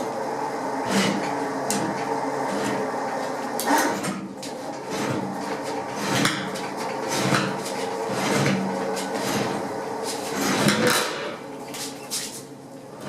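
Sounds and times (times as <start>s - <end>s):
car chassis clanking and rattling: 0.9s - 11.6s.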